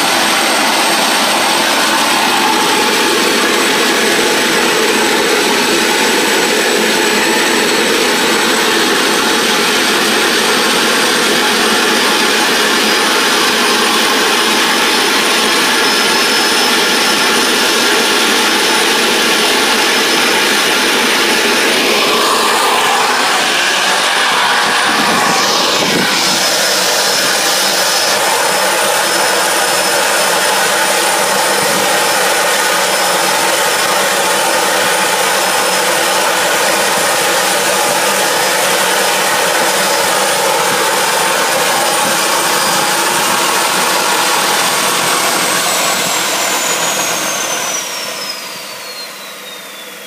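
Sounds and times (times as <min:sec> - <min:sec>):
gas turbine roaring and whining: 0:00.0 - 0:50.0.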